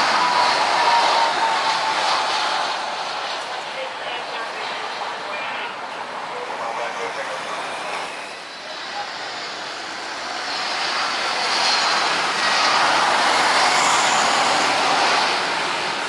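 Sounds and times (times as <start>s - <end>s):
jet airliner engine noise: 0.0s - 16.0s.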